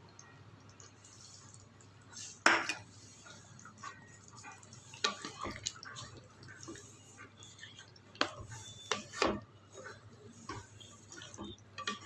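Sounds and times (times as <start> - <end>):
wooden spatula stirring curry: 0.6 - 12.0.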